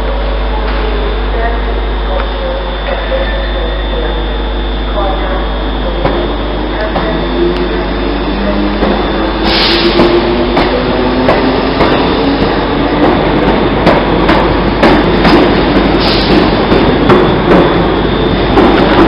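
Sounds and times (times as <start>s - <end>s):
train low hum and rumble: 0.0s - 19.0s.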